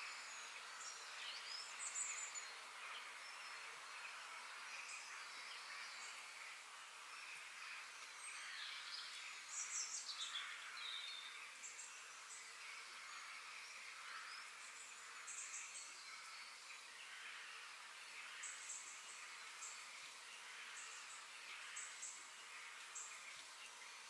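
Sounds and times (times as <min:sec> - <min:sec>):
background hiss: 0:00.0 - 0:24.0
small birds chirping and singing: 0:00.0 - 0:24.0.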